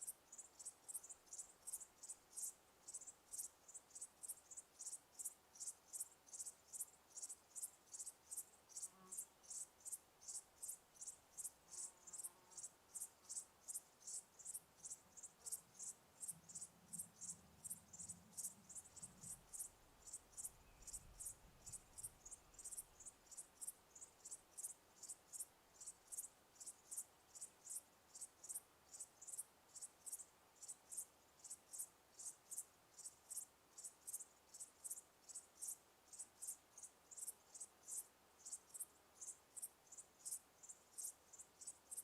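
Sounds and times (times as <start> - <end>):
insect chirping: 0.0 - 42.0.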